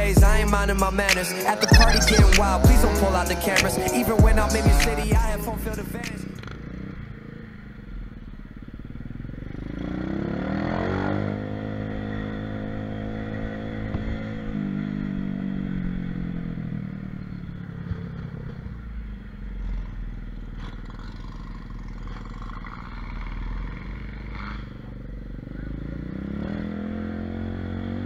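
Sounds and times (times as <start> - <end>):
small motorbike engine revving: 1.4 - 8.2, 8.8 - 28.0.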